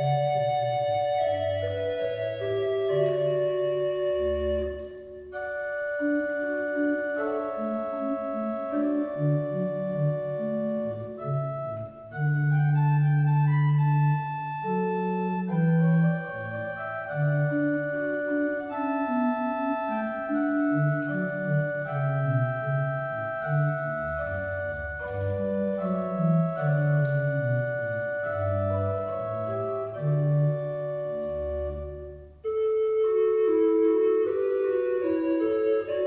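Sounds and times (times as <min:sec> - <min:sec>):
church organ chords: 0:00.0 - 0:36.0.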